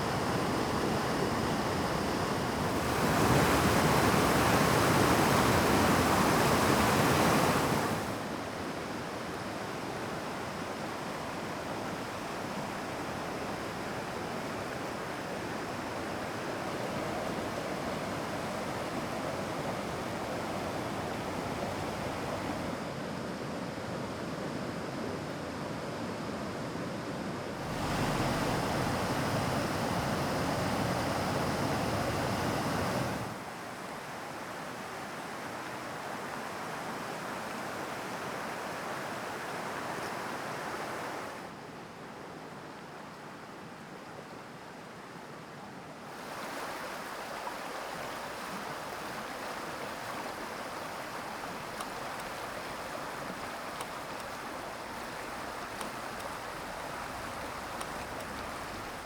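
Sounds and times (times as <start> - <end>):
rushing mountain stream: 0.0 - 22.9, 27.6 - 59.0.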